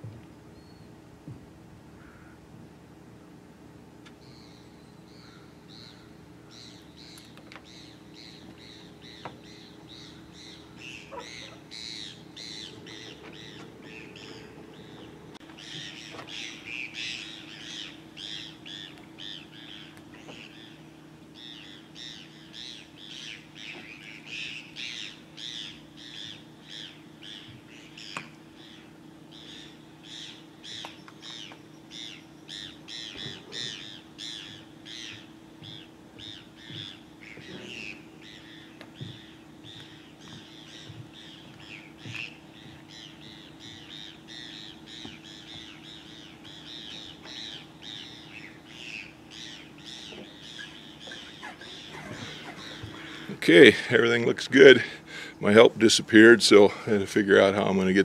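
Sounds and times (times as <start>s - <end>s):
steady low hum: 0.0s - 58.0s
birds calling: 2.0s - 2.5s, 4.0s - 58.0s.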